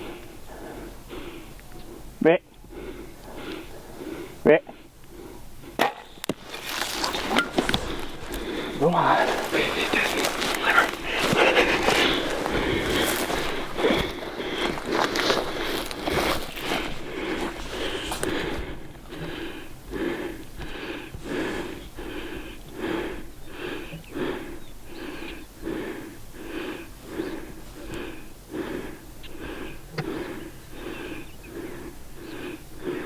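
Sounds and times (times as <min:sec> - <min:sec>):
person breathing hard: 0:00.0 - 0:33.0.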